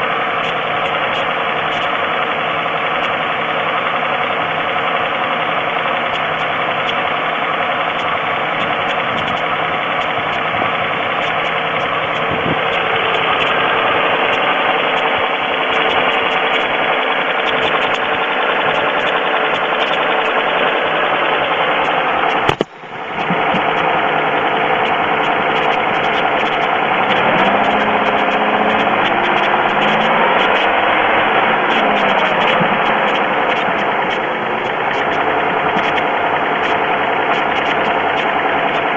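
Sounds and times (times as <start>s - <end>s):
car engine running: 0.0s - 38.9s
engine ticking knock: 0.0s - 38.9s.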